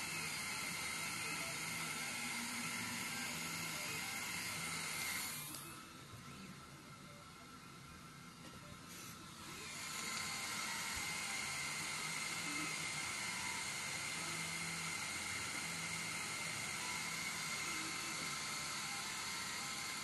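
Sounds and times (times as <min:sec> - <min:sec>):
stepper motors humming: 0:00.0 - 0:05.9, 0:09.2 - 0:20.0
laser engraver whirring whine: 0:00.0 - 0:20.0.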